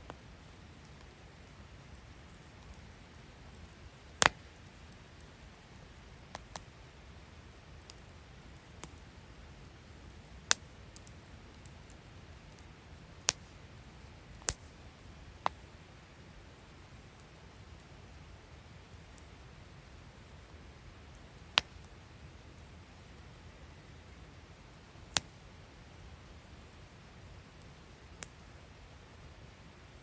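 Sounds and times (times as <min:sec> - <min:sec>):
low steady hiss: 0:00.0 - 0:30.0
wood fire crackling and popping: 0:00.1 - 0:25.6, 0:26.2 - 0:28.7.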